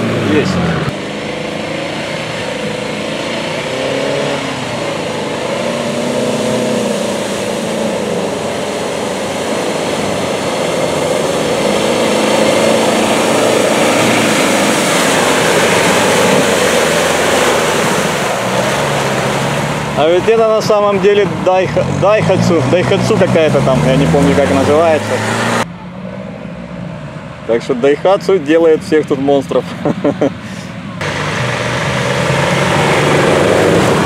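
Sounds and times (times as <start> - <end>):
truck engine revving: 0.0 - 28.0, 31.0 - 34.0
truck churning through mud and water: 0.0 - 34.0.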